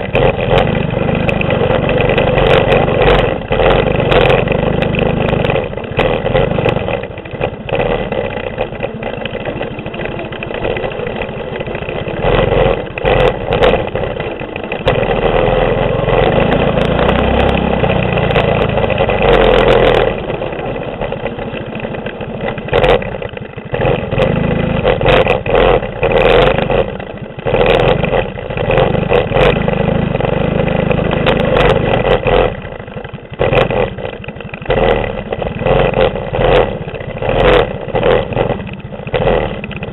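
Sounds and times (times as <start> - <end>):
bike knocking on bumps: 0.0 - 39.9
mini bike engine revving: 0.0 - 39.9.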